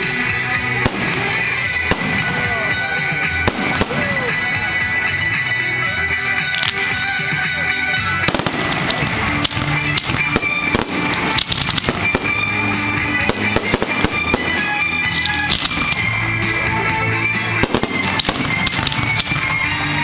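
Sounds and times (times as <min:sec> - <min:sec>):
fireworks bursting and crackling: 0:00.0 - 0:20.0
music playing: 0:00.0 - 0:20.0.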